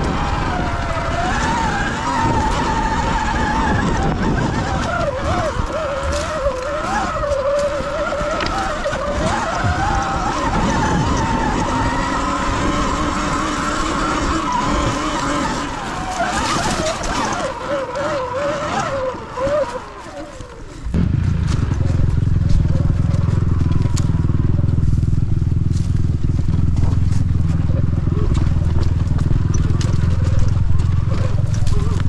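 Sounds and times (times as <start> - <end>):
electric motor whine: 0.0 - 25.8
wind and tyre noise: 0.0 - 32.0.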